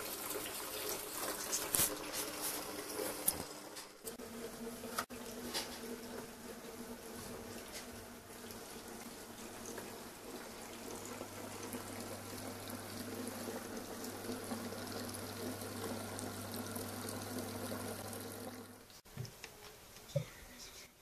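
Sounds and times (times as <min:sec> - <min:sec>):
liquid pouring into a bucket: 0:00.0 - 0:03.8, 0:05.1 - 0:19.0.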